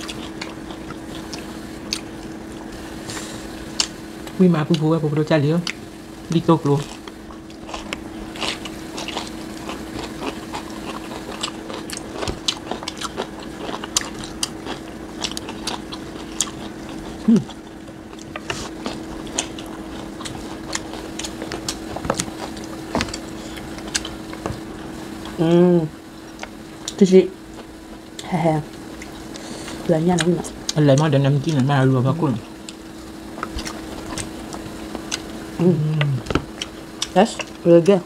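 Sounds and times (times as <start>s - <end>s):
people chewing food: 0.0s - 38.0s
steady low hum: 0.0s - 38.0s.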